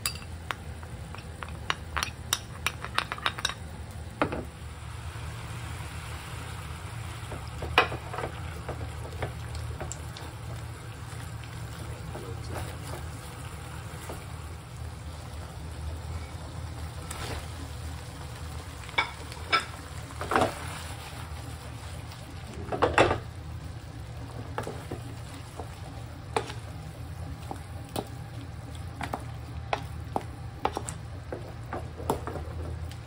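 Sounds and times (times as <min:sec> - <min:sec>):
low steady hum: 0:00.0 - 0:33.0
sauce sizzling in a frying pan: 0:03.2 - 0:33.0.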